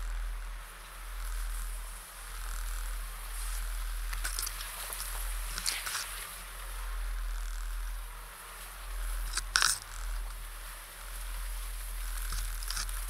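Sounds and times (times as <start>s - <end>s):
grass scraping along car: 0.0s - 13.0s
low vehicle rumble: 0.0s - 13.0s.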